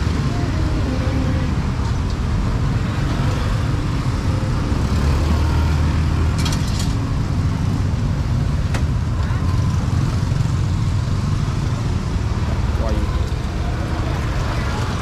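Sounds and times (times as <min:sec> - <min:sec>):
motorbike and car engines passing: 0:00.0 - 0:15.0.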